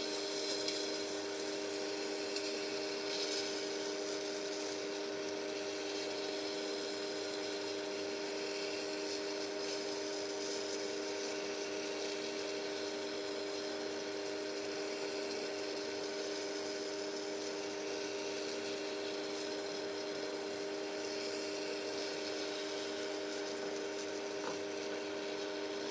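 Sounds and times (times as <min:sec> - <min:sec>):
microwave fan: 0:00.0 - 0:25.9
microwave oven humming: 0:00.0 - 0:25.9.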